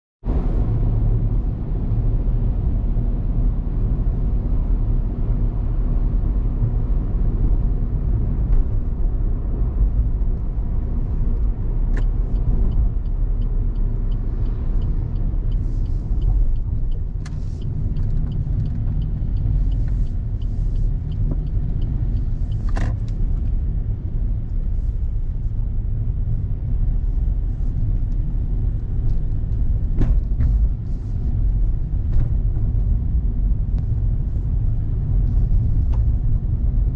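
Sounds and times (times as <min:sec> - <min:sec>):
car engine and tyre rumble: 0:00.2 - 0:36.9.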